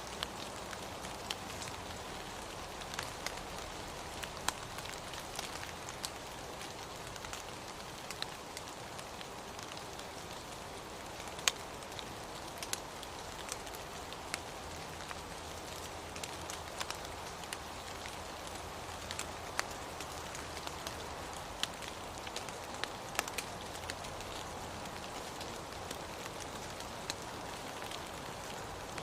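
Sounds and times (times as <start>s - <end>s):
raindrops ticking close by: 0.0s - 29.0s
steady rain hiss: 0.0s - 29.0s.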